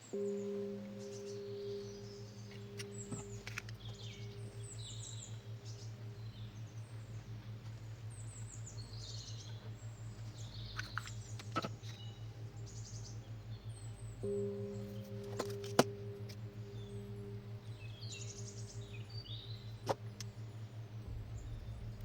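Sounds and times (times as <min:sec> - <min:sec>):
low pulsing hum: 0:00.0 - 0:22.0
small birds chirping: 0:00.0 - 0:22.0.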